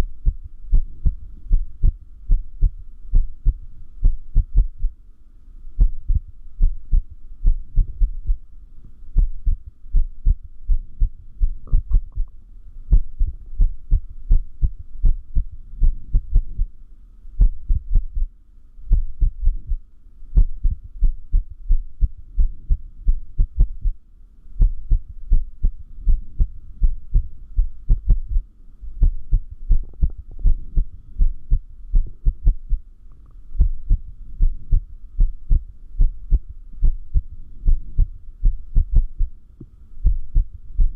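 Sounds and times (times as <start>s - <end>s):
heartbeat thumps: 0.0s - 5.0s, 5.8s - 8.5s, 9.2s - 12.3s, 12.9s - 16.8s, 17.4s - 18.3s, 18.9s - 19.8s, 20.4s - 24.0s, 24.6s - 32.9s, 33.6s - 39.4s, 40.0s - 40.9s.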